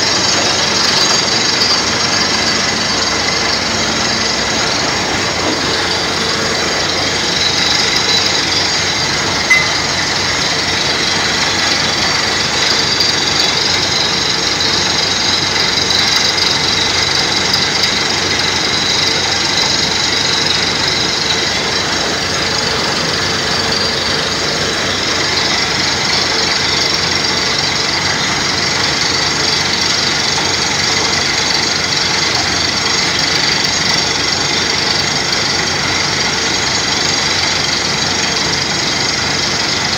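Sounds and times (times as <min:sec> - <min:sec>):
running machinery: 0:00.0 - 0:39.9.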